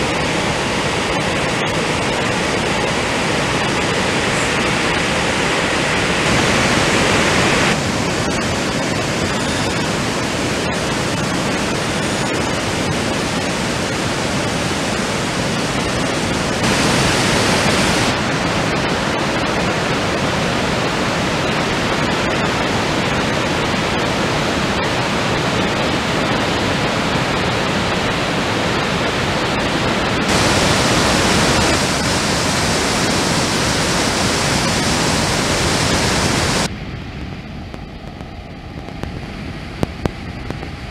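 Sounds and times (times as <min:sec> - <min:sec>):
river rushing over rapids: 0:00.0 - 0:36.7.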